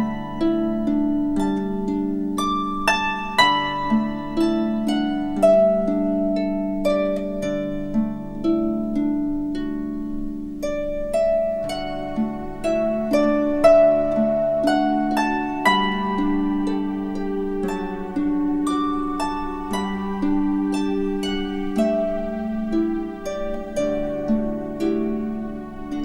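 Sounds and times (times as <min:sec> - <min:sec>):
slow instrumental music: 0:00.0 - 0:26.0.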